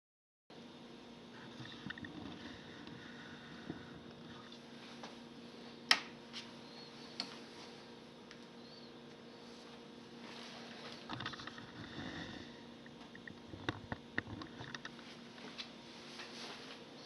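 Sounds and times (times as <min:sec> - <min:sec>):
turntable hum: 0:00.6 - 0:17.0.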